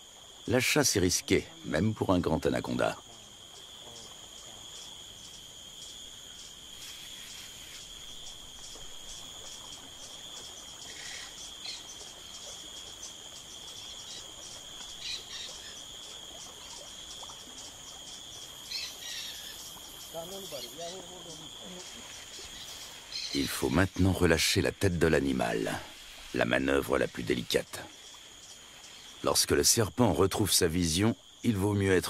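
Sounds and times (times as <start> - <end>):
insect chirps: 0.0 - 32.0
insects pulsing trill: 0.0 - 32.0.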